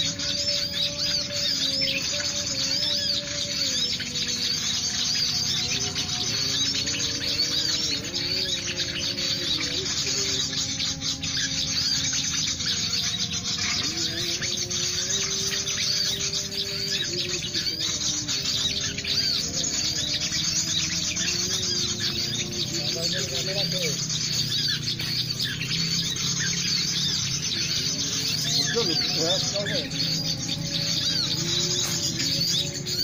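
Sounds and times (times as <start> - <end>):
low held melody: 0.0 - 33.0
small birds chirping: 0.0 - 33.0.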